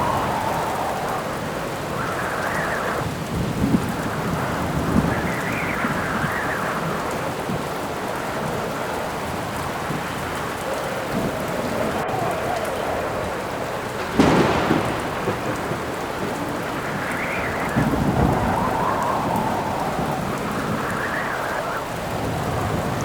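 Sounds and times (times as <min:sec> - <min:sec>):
heavy rain: 0:00.0 - 0:23.0
thunder rumble: 0:00.0 - 0:23.0
wind howling in gusts: 0:00.0 - 0:23.0.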